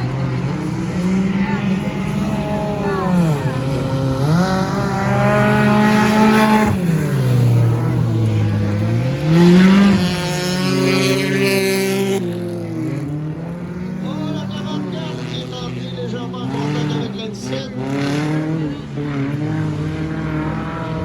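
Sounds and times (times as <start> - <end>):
stock car engines racing: 0.0 - 21.0.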